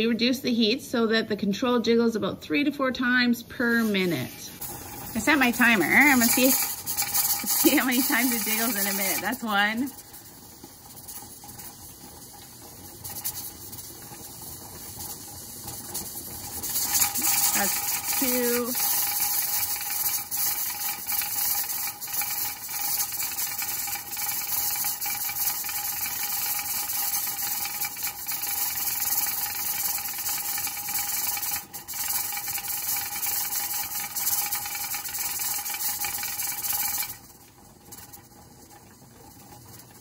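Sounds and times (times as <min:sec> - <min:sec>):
steam hissing from pressure canner: 0:03.5 - 0:40.0.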